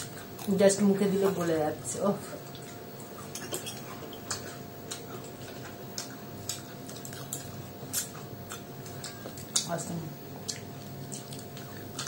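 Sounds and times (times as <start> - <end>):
people chewing with wet smacking: 0.0 - 12.0.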